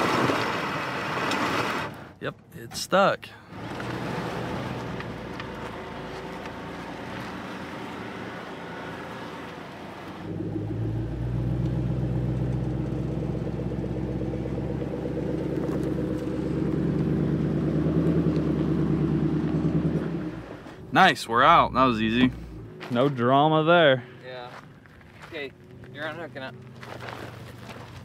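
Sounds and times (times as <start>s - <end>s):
vehicle engine under load: 0.0s - 2.5s, 3.3s - 28.0s.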